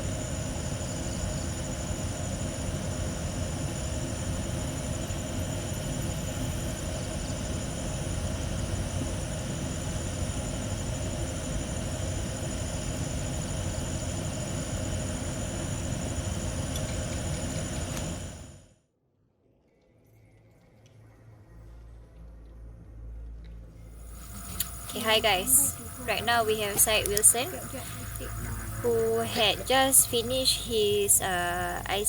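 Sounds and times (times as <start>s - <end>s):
high insect trill: 0.0s - 18.4s, 24.0s - 32.0s.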